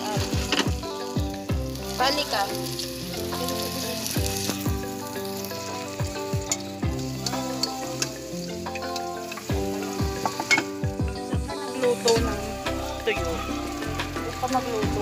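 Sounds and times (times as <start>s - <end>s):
background music: 0.0s - 15.0s
garlic sizzling in a wok: 0.0s - 15.0s.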